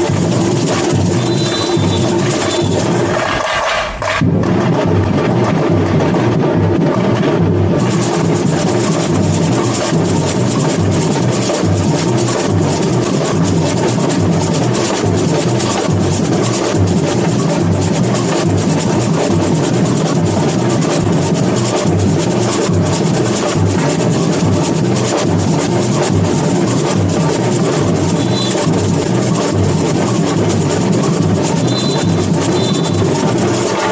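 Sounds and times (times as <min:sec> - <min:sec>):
deep bass drums: 0:00.0 - 0:03.4, 0:04.0 - 0:33.9
shakers: 0:00.0 - 0:04.2, 0:07.8 - 0:33.9
fast high drums: 0:00.0 - 0:33.9.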